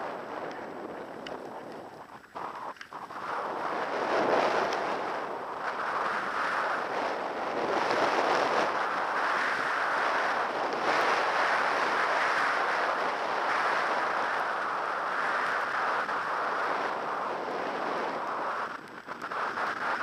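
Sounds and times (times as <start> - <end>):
skis scraping over snow: 0.0 - 20.0
wind on microphone: 0.0 - 20.0.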